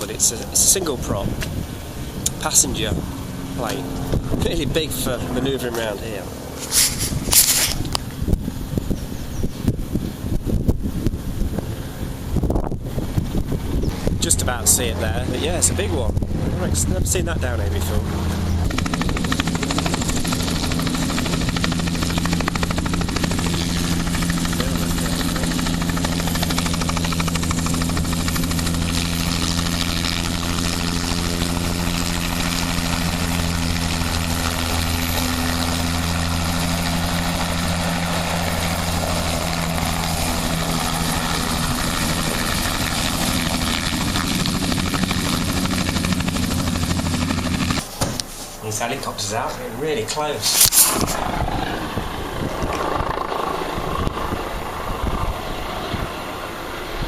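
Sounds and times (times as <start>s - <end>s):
aircraft engine hum: 0.0s - 57.0s.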